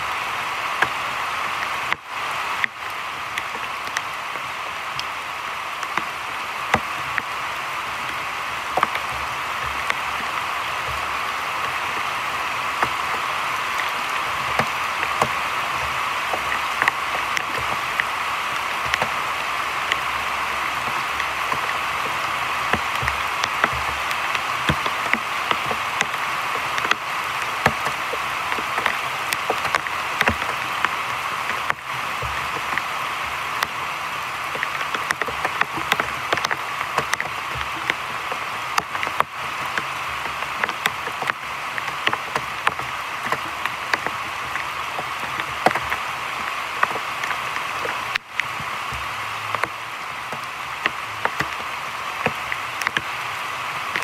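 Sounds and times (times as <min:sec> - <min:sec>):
heavy rain on water and leaves: 0:00.0 - 0:54.0.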